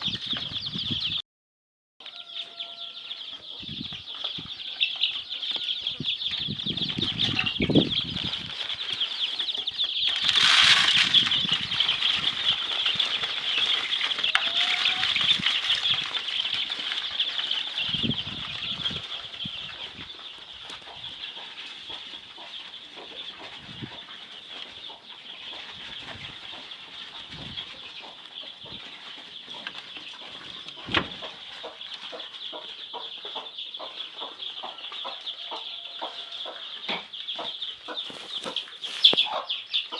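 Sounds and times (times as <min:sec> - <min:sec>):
chicks peeping: 0:00.0 - 0:01.2, 0:02.0 - 0:39.9.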